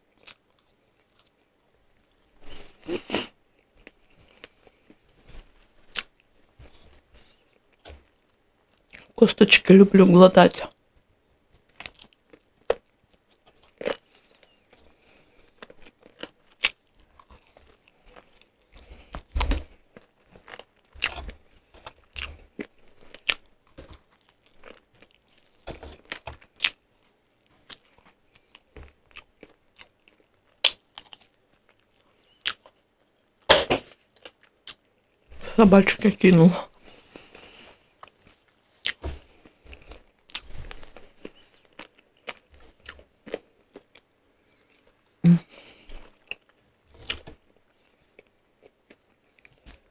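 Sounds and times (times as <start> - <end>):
chewing crispy chicken: 0.0 - 5.0, 5.9 - 9.2, 10.6 - 33.1, 36.7 - 49.9.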